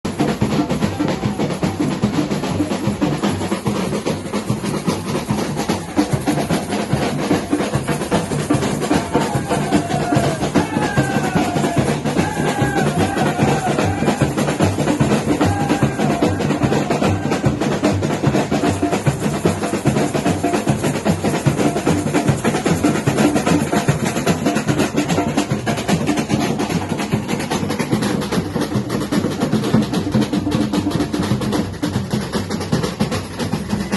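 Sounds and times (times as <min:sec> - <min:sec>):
samba drum ensemble: 0:00.0 - 0:33.9.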